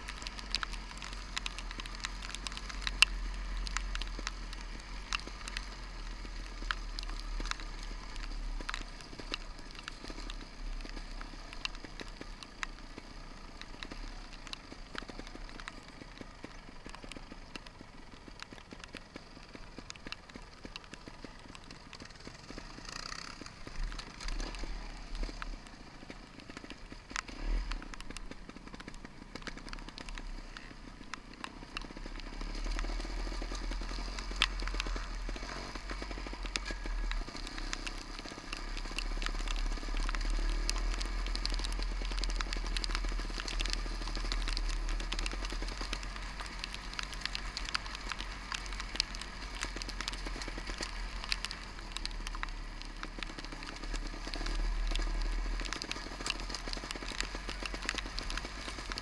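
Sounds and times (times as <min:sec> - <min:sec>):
motorcycle engine rumble: 0:00.0 - 0:59.0
rain and mud hitting camera: 0:00.0 - 0:59.0.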